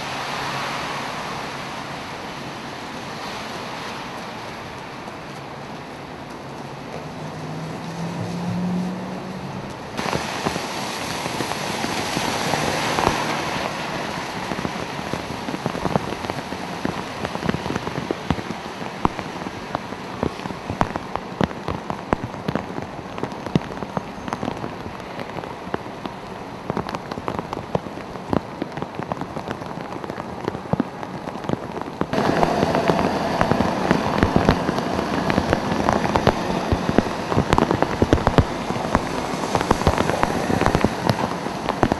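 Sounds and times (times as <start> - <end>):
heavy rain on wet pavement: 0.0 - 41.9.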